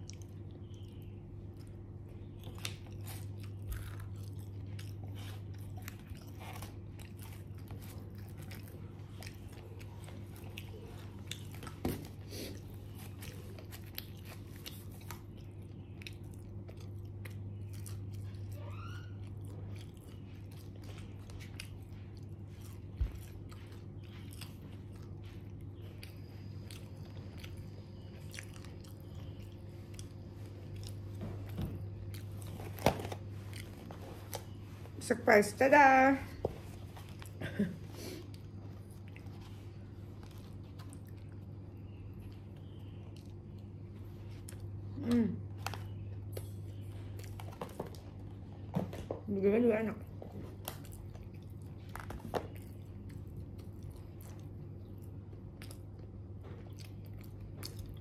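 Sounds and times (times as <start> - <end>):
person chewing crunchy food: 0.0 - 35.0, 36.4 - 48.7, 50.1 - 58.0
steady low hum: 0.0 - 58.0.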